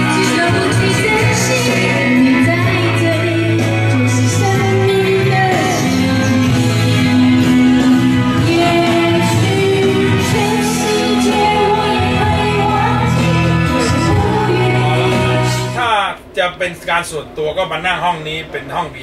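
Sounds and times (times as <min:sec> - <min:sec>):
woman singing into microphone: 0:00.0 - 0:15.8
backing track over speakers: 0:00.0 - 0:19.0.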